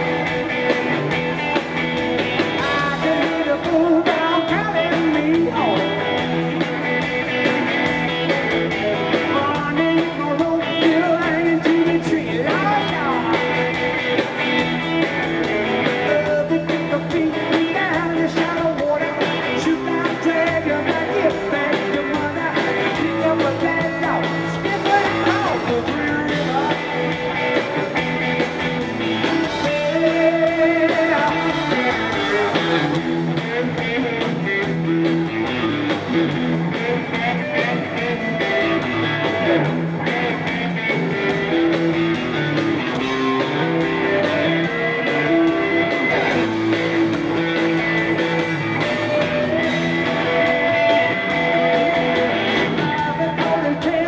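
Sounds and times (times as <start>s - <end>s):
electric guitar: 0.0s - 54.0s
live rock band playing: 0.0s - 54.0s.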